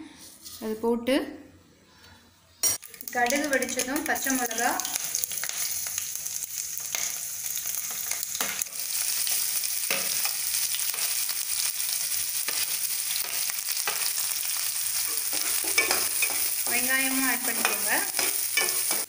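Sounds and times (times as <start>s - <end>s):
hot oil sizzling with spices: 2.8s - 19.0s.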